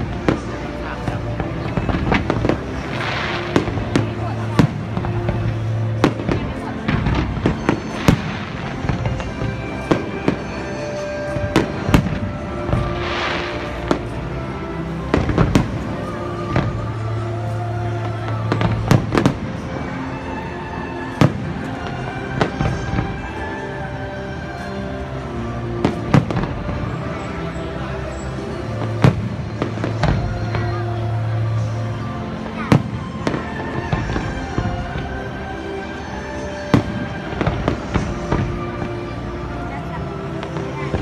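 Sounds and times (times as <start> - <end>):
fireworks bursting in bangs: 0.0 - 17.1, 18.0 - 23.7, 25.8 - 27.4, 28.1 - 30.9, 31.6 - 35.4, 36.0 - 39.4, 40.2 - 41.0
background music with held notes: 0.0 - 41.0.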